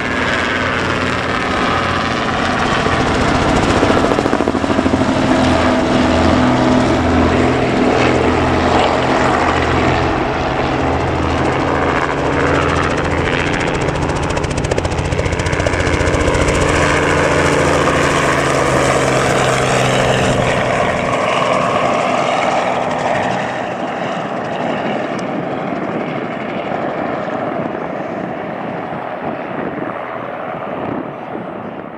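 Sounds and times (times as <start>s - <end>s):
helicopter flying by: 0.0s - 31.9s.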